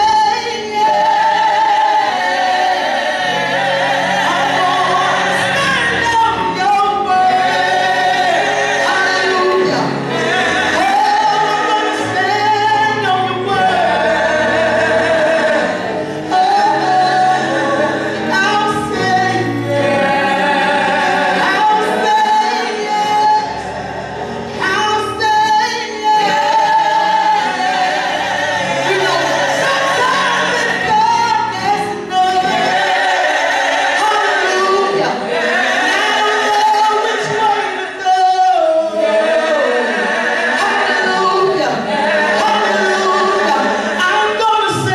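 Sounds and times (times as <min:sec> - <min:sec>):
backing voices singing: 0:00.0 - 0:44.9.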